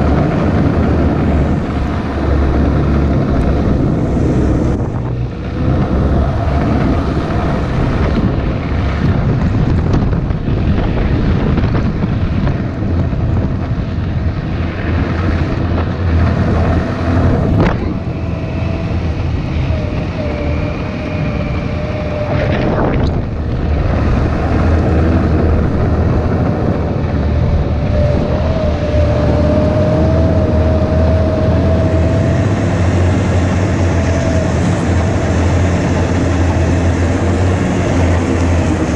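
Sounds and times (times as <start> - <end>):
snowmobile engine running: 0.0 - 38.9
wind buffeting microphone: 0.0 - 38.9.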